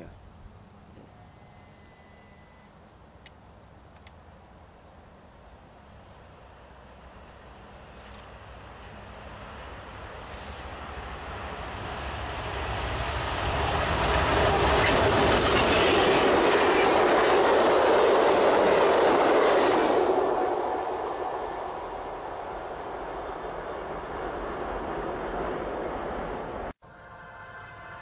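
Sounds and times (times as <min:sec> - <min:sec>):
passenger train rumbling on track: 0:05.3 - 0:28.0.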